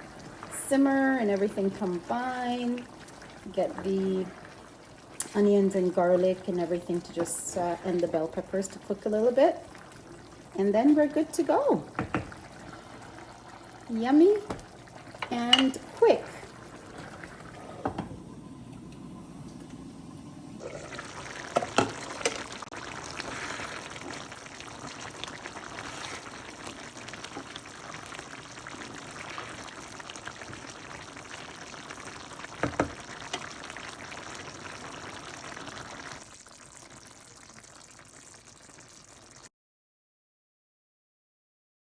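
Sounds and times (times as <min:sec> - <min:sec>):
sauce simmering and sizzling in pan: 0:00.0 - 0:39.5.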